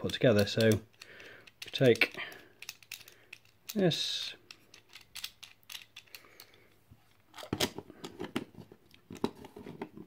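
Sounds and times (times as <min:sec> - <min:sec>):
hard plastic parts clicking: 0:00.0 - 0:06.6, 0:07.3 - 0:10.0.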